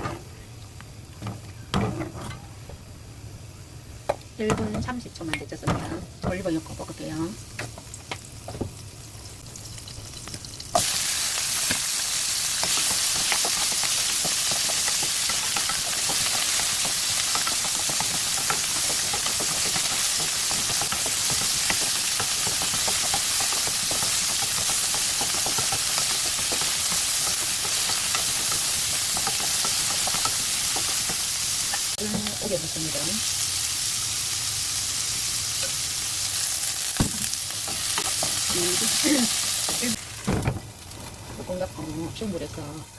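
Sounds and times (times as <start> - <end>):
food sizzling in oil: 1.7 - 42.9.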